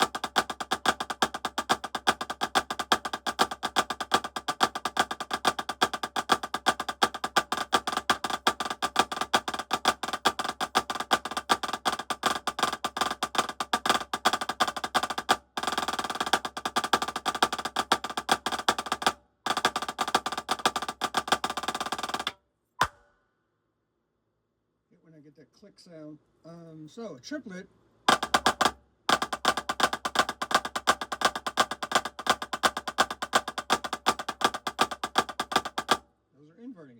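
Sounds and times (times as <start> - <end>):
fast snare drum roll: 0.0 - 23.0, 28.1 - 36.0
snare drum strokes: 0.0 - 23.1, 28.1 - 36.0.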